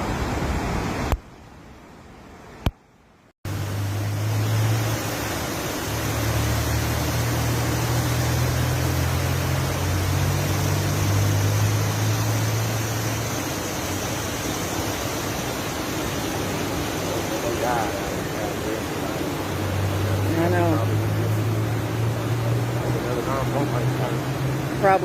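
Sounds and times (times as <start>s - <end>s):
floodwater rushing: 3.5s - 25.0s
low engine-like hum: 3.5s - 25.0s.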